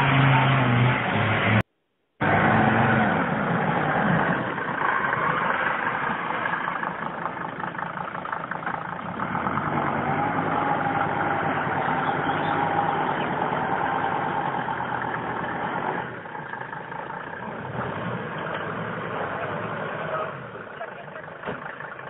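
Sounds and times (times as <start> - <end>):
vehicle engine driving away: 0.0 - 22.0.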